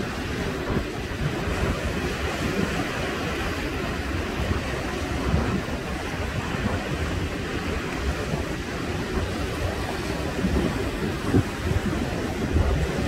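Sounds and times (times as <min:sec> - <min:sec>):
surf washing over rocks: 0:00.0 - 0:13.0
wind buffeting microphone: 0:00.0 - 0:13.0.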